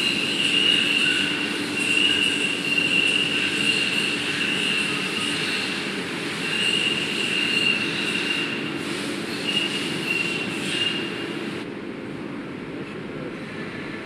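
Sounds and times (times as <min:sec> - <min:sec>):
grinding machine squealing whine: 0:00.0 - 0:11.5.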